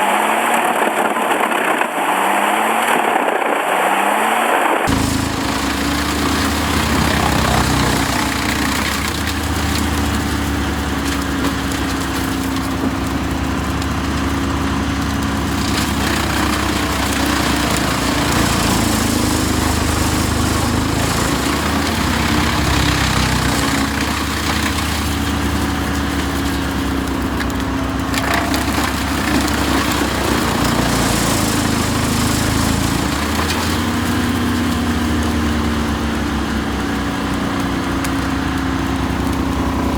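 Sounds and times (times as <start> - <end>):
wood crackling and splintering: 4.8 - 39.9
wood chipper engine running: 4.9 - 39.9.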